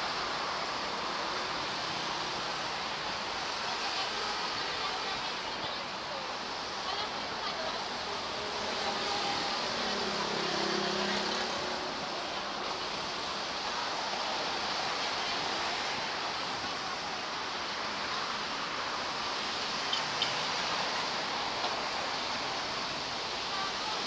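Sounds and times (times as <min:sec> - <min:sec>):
city street traffic roar: 0:00.0 - 0:24.0.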